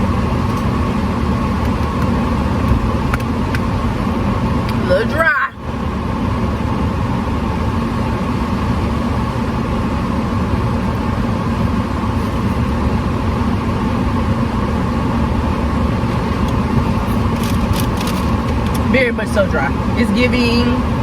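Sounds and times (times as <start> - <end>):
car engine rumble inside car: 0.0 - 21.0.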